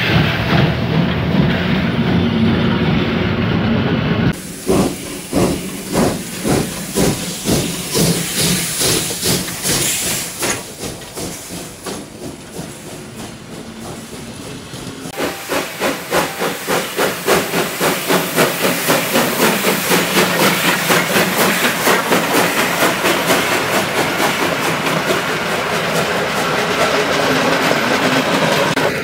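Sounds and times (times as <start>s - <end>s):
rush of passing train: 0.0s - 29.0s
steam locomotive exhaust chuffing: 4.2s - 29.0s
hissing steam: 4.3s - 29.0s.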